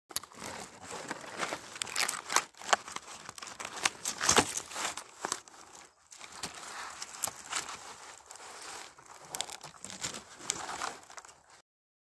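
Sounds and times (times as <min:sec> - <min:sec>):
dry grass and leaves rustling: 0:00.1 - 0:11.6.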